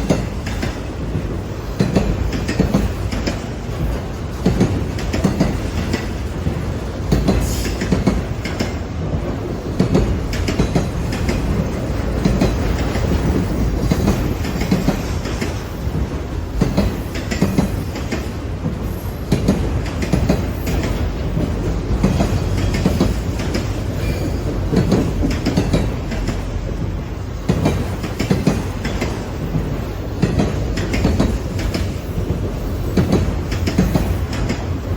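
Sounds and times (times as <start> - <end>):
train rumbling past: 0.0 - 34.9
wheels clacking over rail joints: 0.0 - 34.9.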